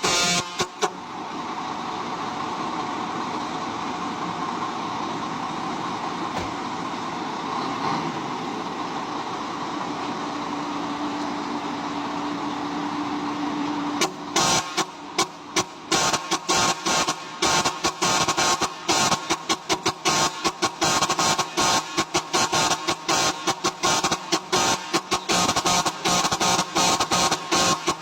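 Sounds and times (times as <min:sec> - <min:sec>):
vehicle running noise: 0:00.0 - 0:28.0.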